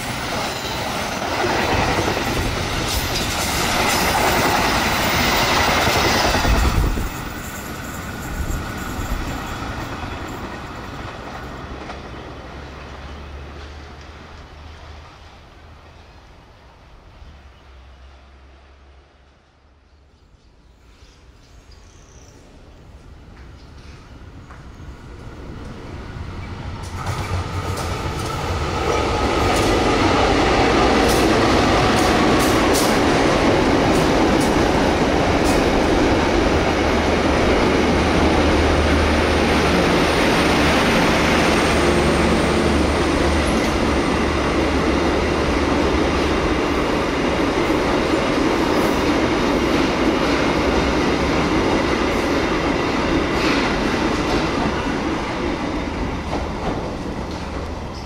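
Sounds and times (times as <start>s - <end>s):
train wheels rumbling on rails: 0.0s - 17.5s, 20.8s - 58.0s.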